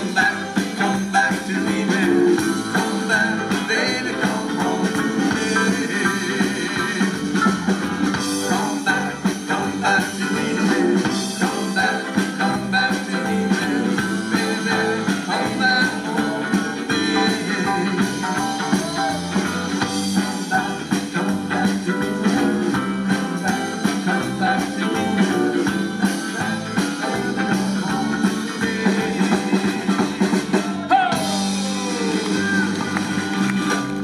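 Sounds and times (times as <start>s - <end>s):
drums steady beat: 0.0s - 34.0s
live band playing doo-wop: 0.0s - 34.0s.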